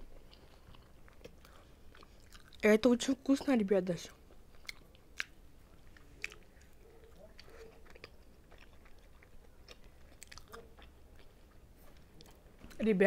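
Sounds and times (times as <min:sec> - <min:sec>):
person chewing food: 0:00.0 - 0:02.6, 0:03.3 - 0:12.8.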